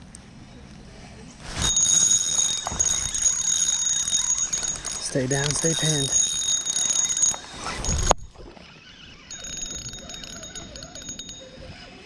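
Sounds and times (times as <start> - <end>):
fishing reel whining and clicking: 1.5 - 12.0.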